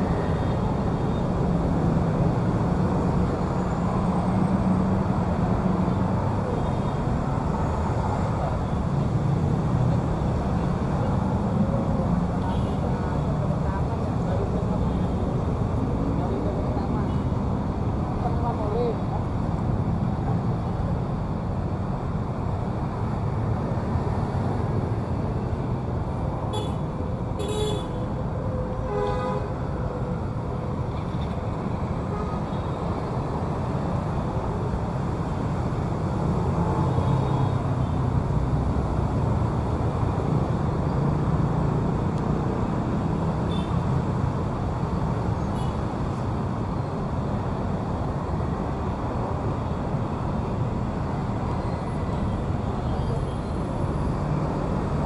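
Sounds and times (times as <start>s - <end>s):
rumble of passing vehicles: 0.0s - 55.0s.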